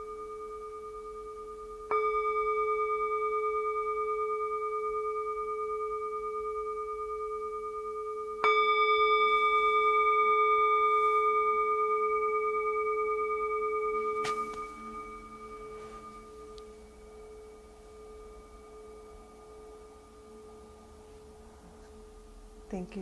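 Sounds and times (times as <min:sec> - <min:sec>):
meditation bell ringing: 0:00.0 - 0:22.7.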